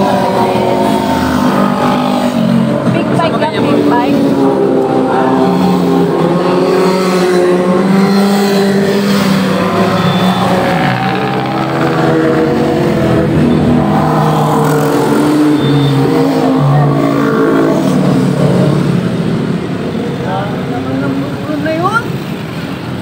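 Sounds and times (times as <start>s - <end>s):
motorcycles passing by: 0.0s - 23.0s.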